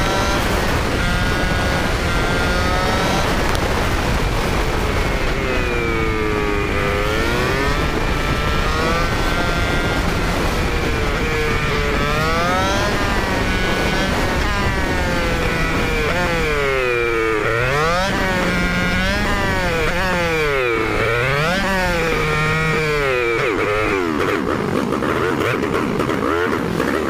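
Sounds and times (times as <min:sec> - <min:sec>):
motorcycle engine revving: 0:00.0 - 0:27.0
wind noise: 0:00.0 - 0:27.0.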